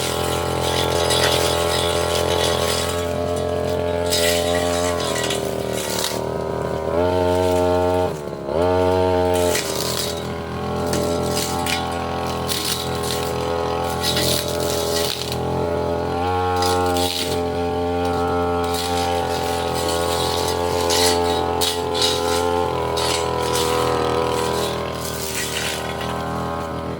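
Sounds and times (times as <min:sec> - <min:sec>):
blade clinking against brush: 0:00.0 - 0:08.3, 0:09.2 - 0:15.6, 0:16.6 - 0:26.8
brush cutter engine running: 0:00.0 - 0:26.9.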